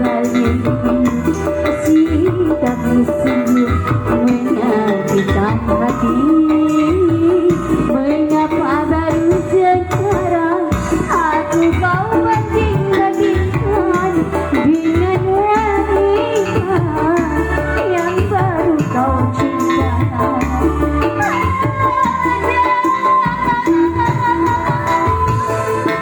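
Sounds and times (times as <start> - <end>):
song with wavering lead melody: 0.0 - 26.0.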